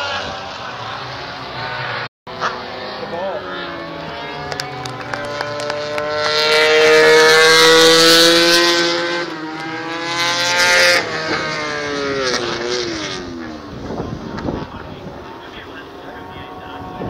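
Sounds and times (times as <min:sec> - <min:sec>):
racing motorcycle passing at high revs: 0:00.0 - 0:17.0.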